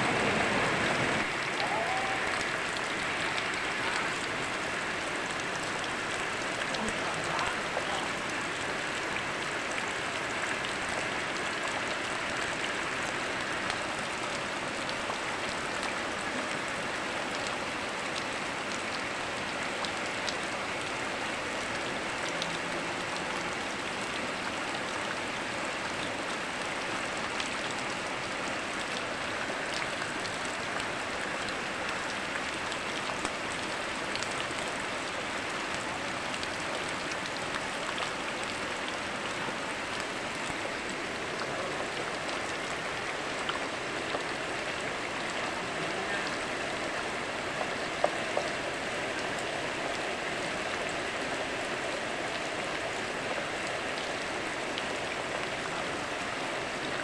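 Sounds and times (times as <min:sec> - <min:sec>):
river rushing: 0:00.0 - 0:57.0
steady rain: 0:00.0 - 0:57.0.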